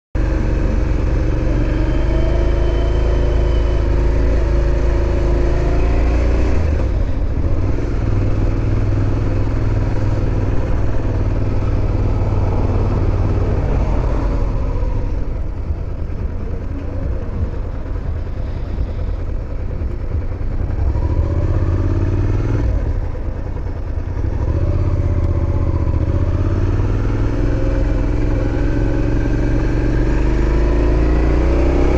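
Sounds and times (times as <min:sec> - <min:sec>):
motorcycle engine accelerating: 0:00.2 - 0:31.9.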